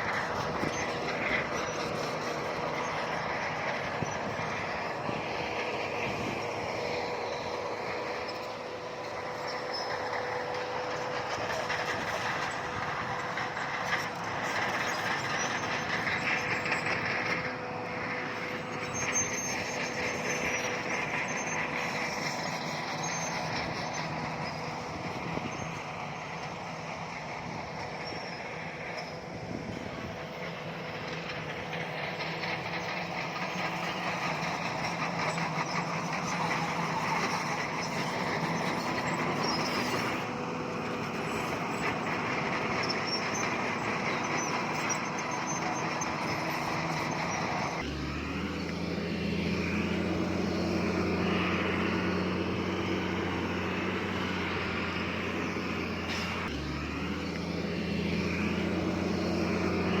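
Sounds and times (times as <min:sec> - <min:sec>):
heavy machinery diesel engines: 0:00.0 - 1:00.0.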